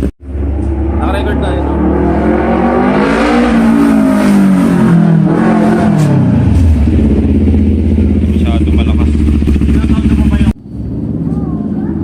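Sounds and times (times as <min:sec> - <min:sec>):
motorcycle engine revving: 0:00.0 - 0:11.3.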